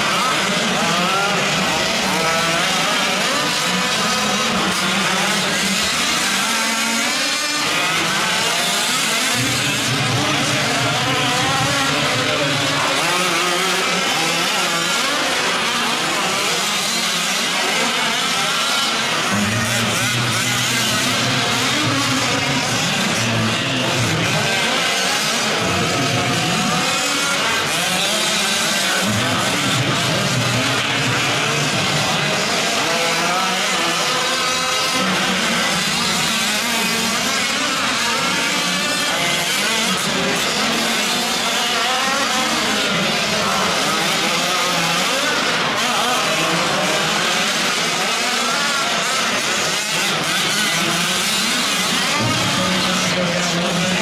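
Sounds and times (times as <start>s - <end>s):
small two-stroke engines revving: 0.0s - 54.0s.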